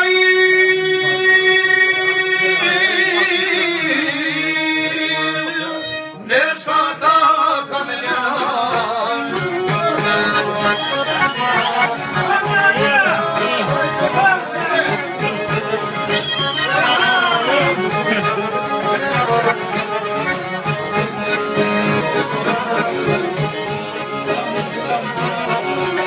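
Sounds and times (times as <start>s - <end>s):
man singing: 0.0s - 20.0s, 22.2s - 23.6s
folk music on lute violin accordion: 0.0s - 26.0s.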